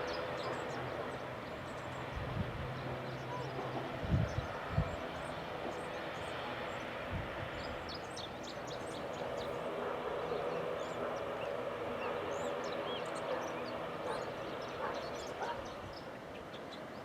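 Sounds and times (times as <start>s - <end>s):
aircraft engine noise: 0.0s - 17.0s
small birds chirping: 0.0s - 17.0s.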